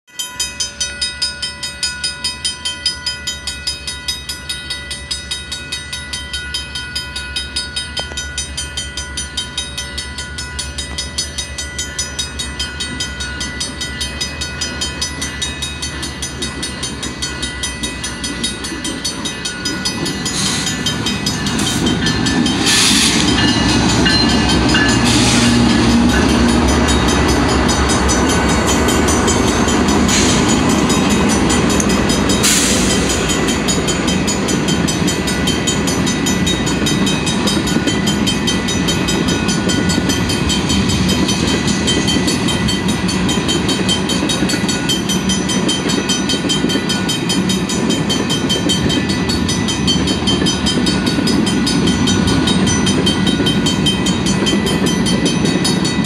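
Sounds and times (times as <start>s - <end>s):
level-crossing bell ringing: 0.1s - 56.0s
diesel locomotive passing: 0.4s - 56.0s.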